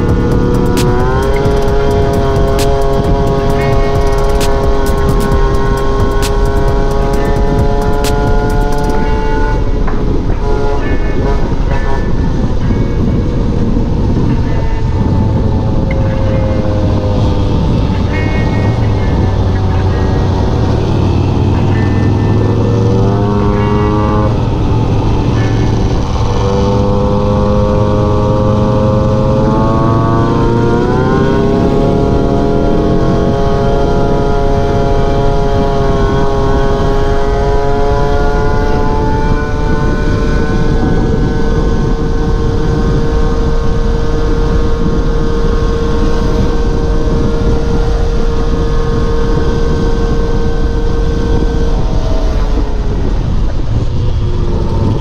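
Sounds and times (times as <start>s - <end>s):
moped engine droning: 0.0s - 55.0s
wind rush on microphone: 0.0s - 55.0s.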